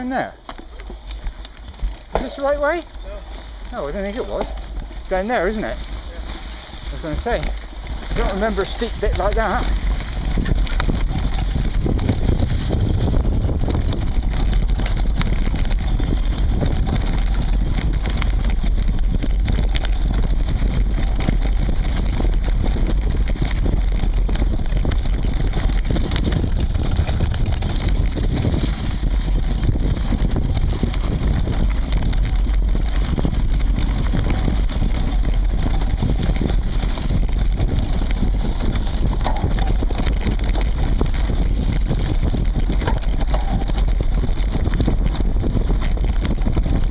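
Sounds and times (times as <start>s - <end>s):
bike rattling and knocking: 0.0s - 46.9s
tyres rumbling on dirt trail: 0.0s - 46.9s.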